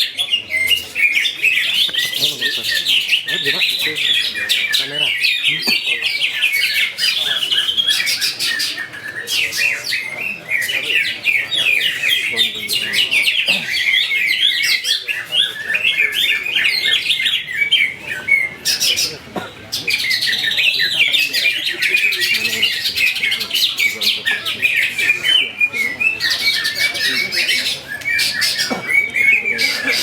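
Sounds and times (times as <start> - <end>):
bird chirping song: 0.0 - 30.0.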